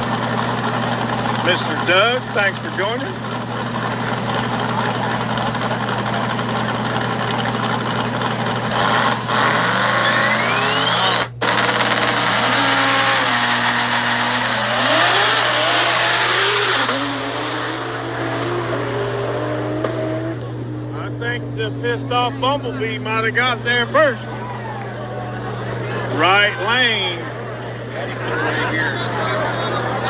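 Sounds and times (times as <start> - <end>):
drag car engines revving: 0.0 - 30.0.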